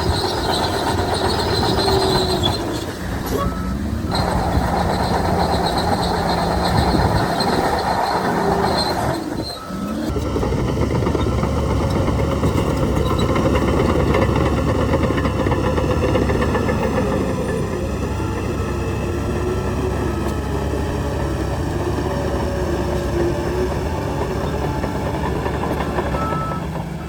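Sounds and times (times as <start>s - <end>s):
heavy diesel machinery engine drone: 0.0s - 27.0s.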